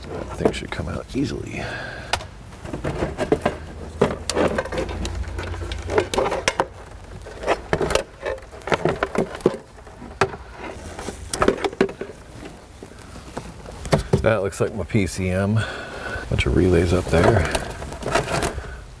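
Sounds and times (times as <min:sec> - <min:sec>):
rustling and light tapping: 0:02.4 - 0:15.1, 0:16.0 - 0:18.8.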